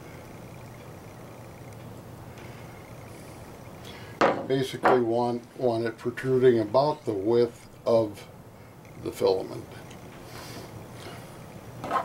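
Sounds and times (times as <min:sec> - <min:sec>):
room hiss: 0:00.0 - 0:12.0.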